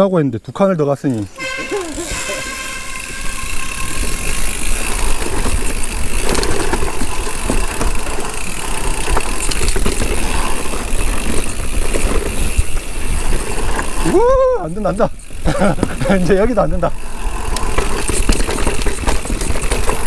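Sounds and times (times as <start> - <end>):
bike frame rattling: 1.0 - 20.0.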